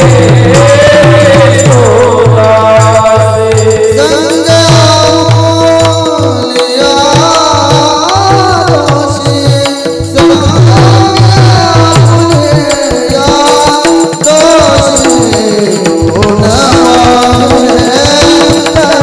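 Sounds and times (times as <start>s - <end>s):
barrel drums playing rhythm: 0.0s - 19.0s
men singing in unison: 0.0s - 19.0s.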